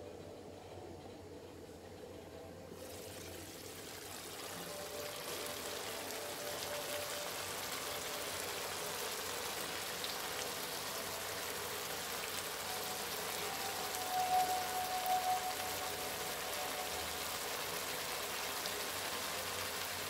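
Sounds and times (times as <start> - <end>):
curry sizzling in a pan: 2.8 - 20.0.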